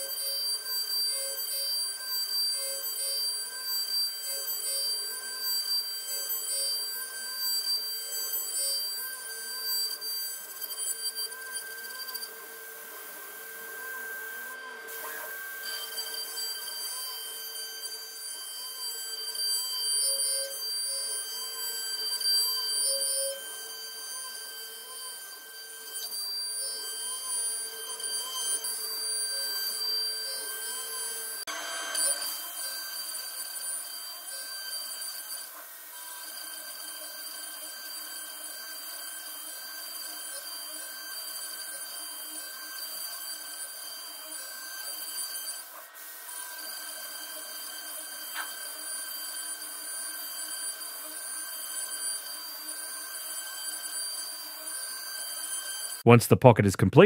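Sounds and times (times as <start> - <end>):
router spindle whining: 0.0 - 56.1.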